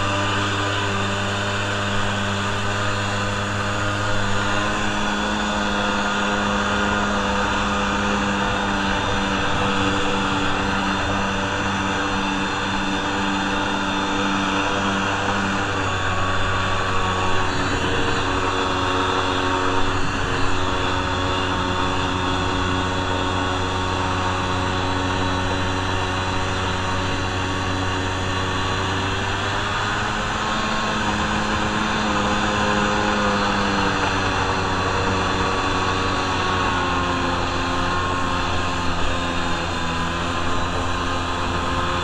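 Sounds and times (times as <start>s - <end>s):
jet ski engine running: 0.0s - 42.0s.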